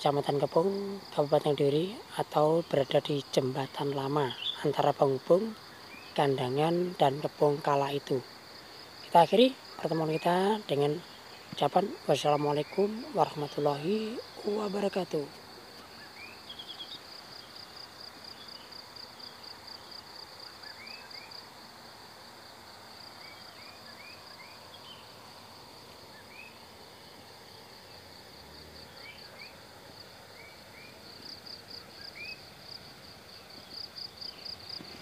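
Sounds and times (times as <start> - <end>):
faint outdoor hiss: 0.0 - 35.0
insects trilling: 0.0 - 35.0.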